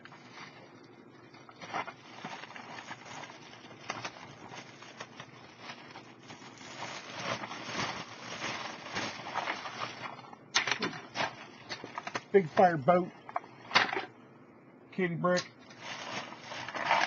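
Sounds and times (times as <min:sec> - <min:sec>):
plastic bag crinkling: 0:00.0 - 0:12.4, 0:15.6 - 0:17.0.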